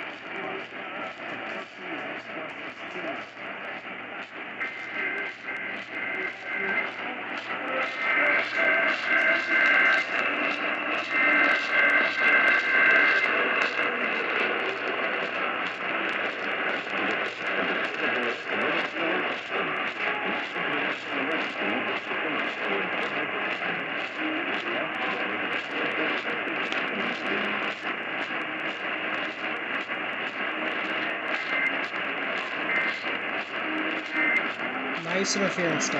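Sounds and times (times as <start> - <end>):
radio static and crackling: 0.0 - 35.9.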